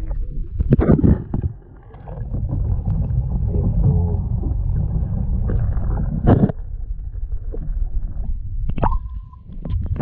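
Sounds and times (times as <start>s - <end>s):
muffled rumble of water moving: 0.0s - 10.0s.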